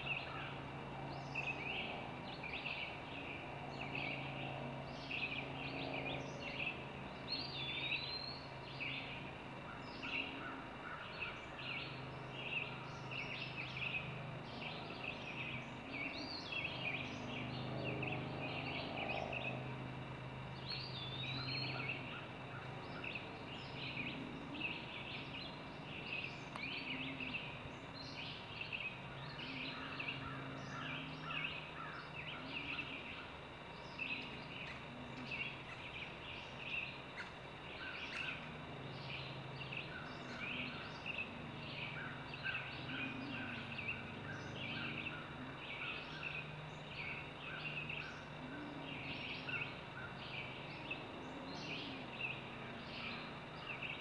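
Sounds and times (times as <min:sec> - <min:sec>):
low drone: 0:00.0 - 0:54.0
songbirds chirping and singing: 0:00.0 - 0:54.0.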